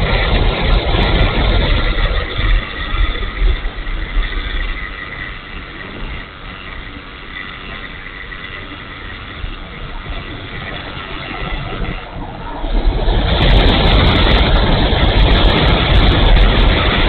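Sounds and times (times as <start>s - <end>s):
electric motor and propeller whine: 0.0s - 17.0s
wind rushing: 0.0s - 17.0s.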